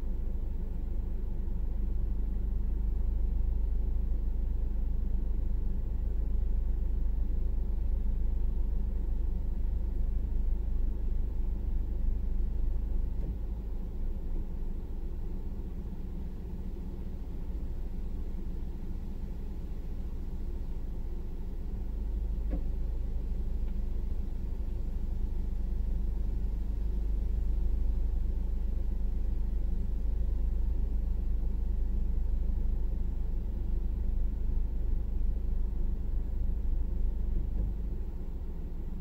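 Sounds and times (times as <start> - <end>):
vehicle idling rumble: 0.0 - 39.0.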